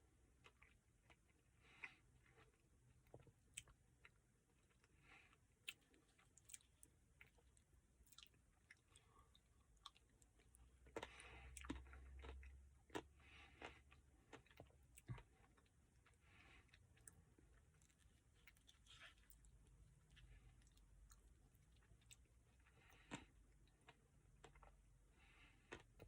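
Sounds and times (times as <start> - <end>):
chewing ice cream: 0.3 - 26.0.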